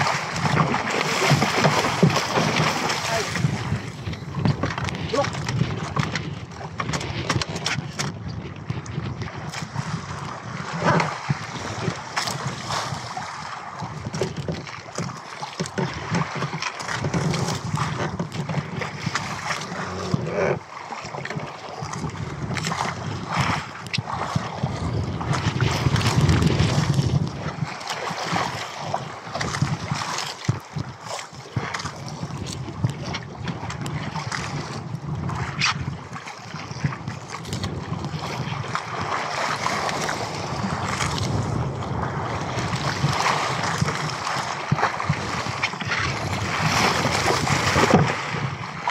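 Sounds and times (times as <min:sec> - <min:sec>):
knocks and splashes: 0:00.0 - 0:48.9
sea splashing against boat: 0:00.0 - 0:48.9
wind buffeting microphone: 0:00.0 - 0:48.9.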